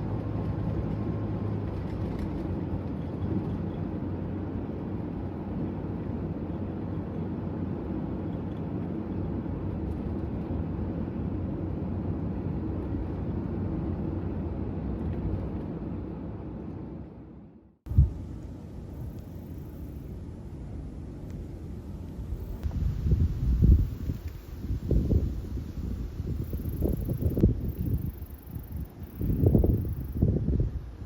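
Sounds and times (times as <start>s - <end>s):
van engine and road rumble: 0.0s - 31.0s.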